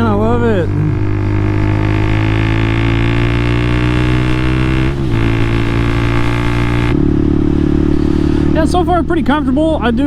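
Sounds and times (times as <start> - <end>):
motorcycle engine riding: 0.0 - 10.0.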